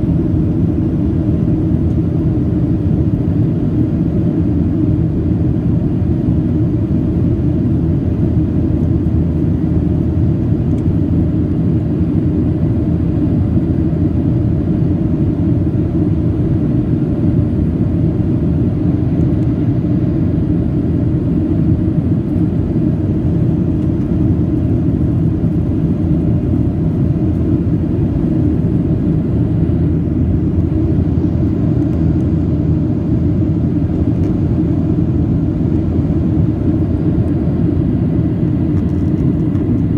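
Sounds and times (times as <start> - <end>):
airplane engines rumbling: 0.0 - 39.9.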